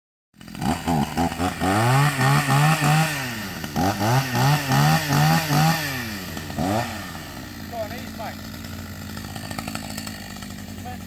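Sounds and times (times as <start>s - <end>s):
chainsaw engine revving: 0.4s - 11.0s.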